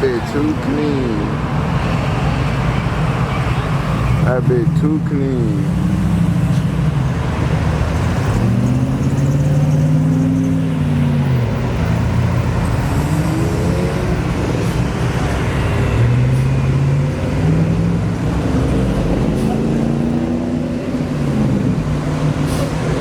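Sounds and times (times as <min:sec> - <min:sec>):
car engine revving: 0:04.3 - 0:23.0.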